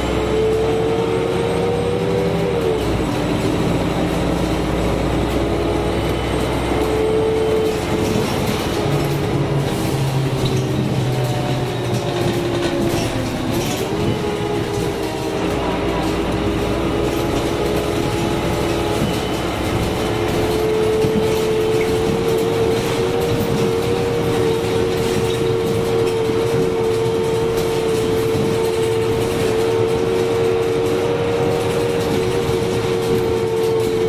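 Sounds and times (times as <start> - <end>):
bus drivetrain rumble and whine: 0.0 - 34.0.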